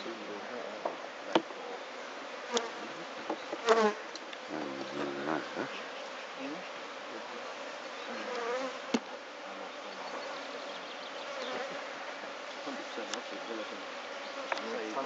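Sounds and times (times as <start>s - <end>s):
bees swarm humming: 0.0s - 15.0s.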